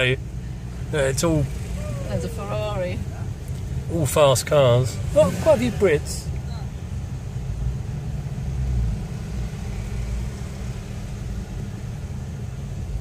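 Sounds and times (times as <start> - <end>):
in-cabin car rumble: 0.0 - 13.0.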